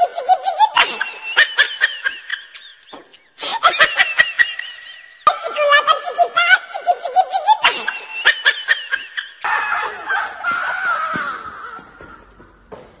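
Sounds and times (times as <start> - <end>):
high-pitched laughter and snickering: 0.0 - 11.9.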